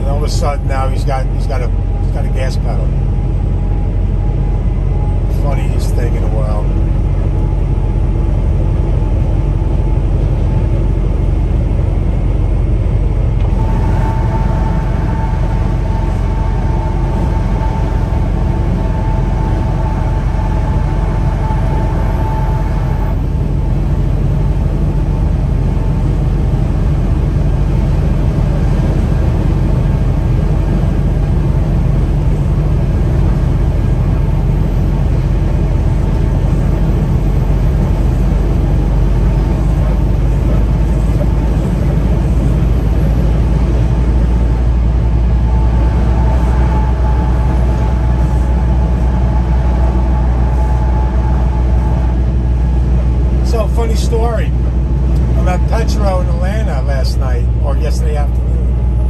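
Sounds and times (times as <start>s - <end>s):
high-pitched whine: 0.0s - 59.0s
road and tyre noise: 0.0s - 59.0s
truck engine drone: 0.0s - 59.0s.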